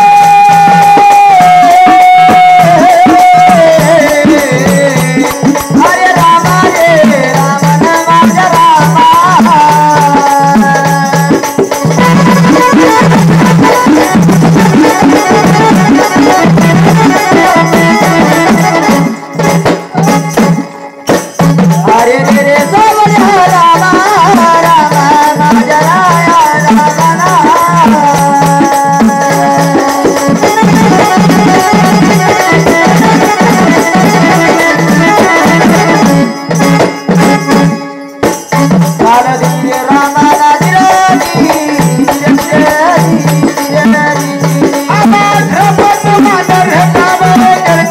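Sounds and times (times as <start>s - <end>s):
steady drum beat: 0.0s - 47.9s
jingling rattling percussion: 0.1s - 47.9s.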